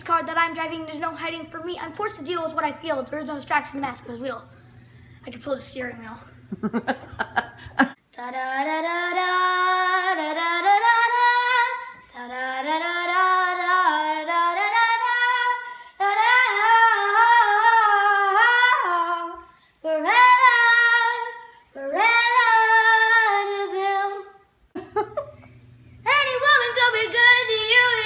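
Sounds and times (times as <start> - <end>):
girl singing: 0.0 - 4.6, 8.0 - 24.5, 26.0 - 28.0.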